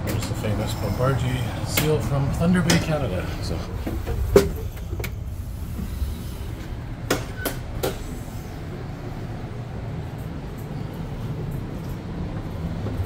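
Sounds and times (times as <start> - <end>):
low rumble inside train coach: 0.0 - 13.0.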